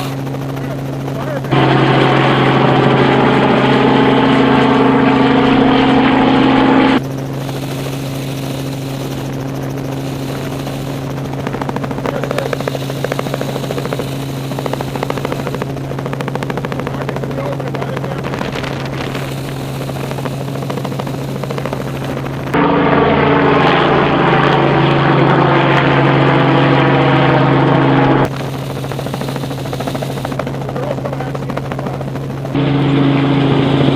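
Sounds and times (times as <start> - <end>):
helicopter rotor chop: 0.0 - 33.9.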